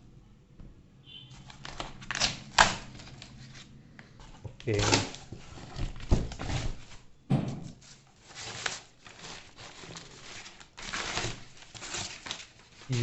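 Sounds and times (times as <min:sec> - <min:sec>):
packing paper rustling and crinkling: 0:01.3 - 0:07.1, 0:07.7 - 0:13.0.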